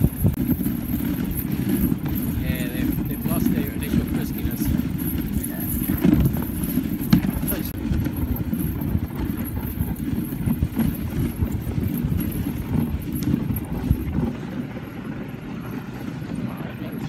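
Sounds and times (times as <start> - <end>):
sled rumbling on snow: 0.0 - 17.0.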